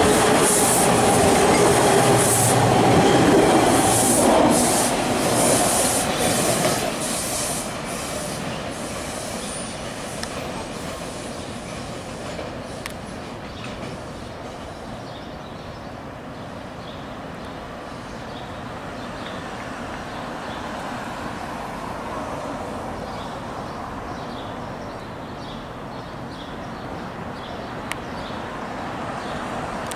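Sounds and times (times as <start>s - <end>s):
subway train wheels rumbling on rail: 0.0s - 29.9s.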